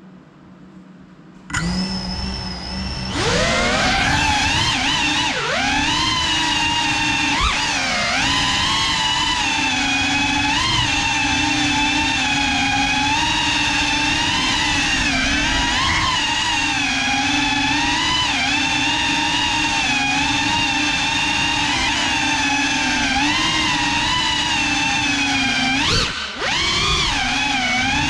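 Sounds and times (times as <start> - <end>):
quadcopter motors whining: 1.5 - 28.0.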